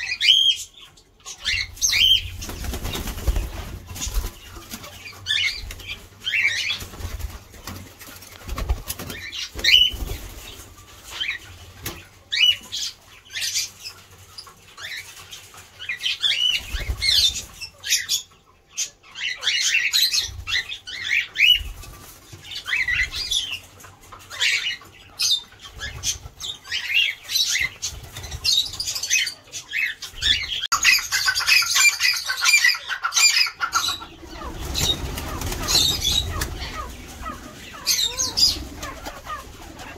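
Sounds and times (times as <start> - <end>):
caged birds chirping and squawking: 0.0 - 39.9.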